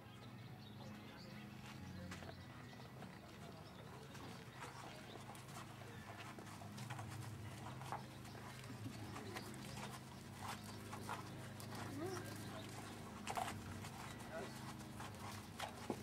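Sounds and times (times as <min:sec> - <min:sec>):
hooves clopping on sandy ground: 0:00.1 - 0:16.0.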